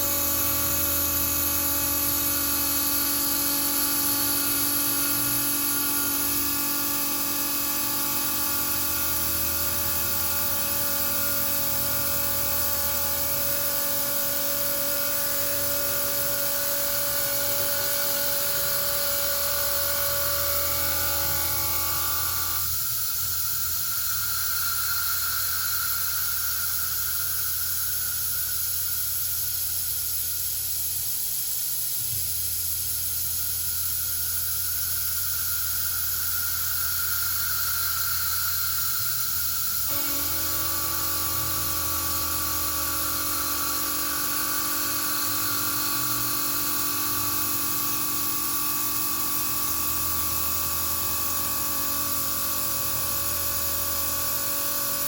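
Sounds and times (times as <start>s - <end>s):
milling machine whining tones: 0.0s - 29.7s, 34.4s - 55.0s.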